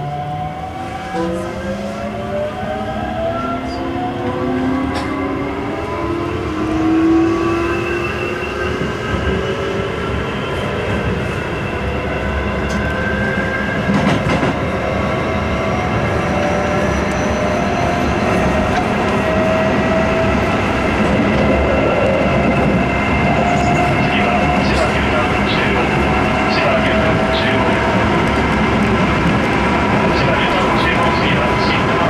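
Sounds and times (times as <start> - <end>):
wheels rumbling on rail: 0.7 - 32.0.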